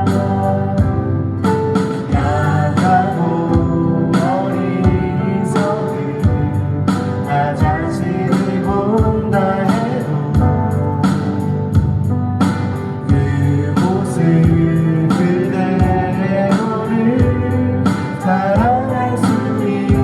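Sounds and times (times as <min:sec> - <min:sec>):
person singing: 0:00.0 - 0:11.8, 0:12.9 - 0:20.0
live band playing gospel song: 0:00.0 - 0:20.0.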